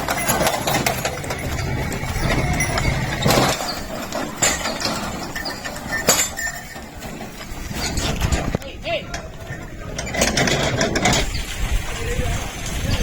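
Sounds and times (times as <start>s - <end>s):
cart knocking and clinking: 0.0s - 11.9s
hooves clopping: 0.0s - 13.0s.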